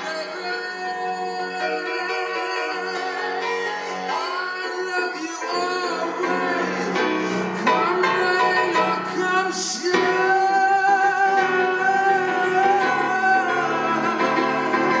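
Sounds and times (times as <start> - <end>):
grand piano: 0.0 - 15.0
man singing a slow ballad: 0.0 - 15.0.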